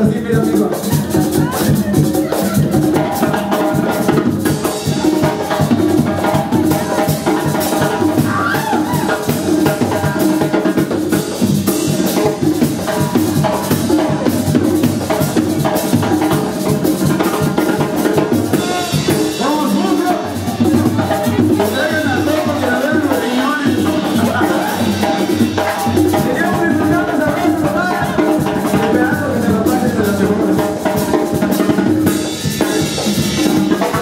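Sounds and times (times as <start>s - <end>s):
live banda music: 0.0s - 34.0s
steady drum beat: 0.0s - 34.0s.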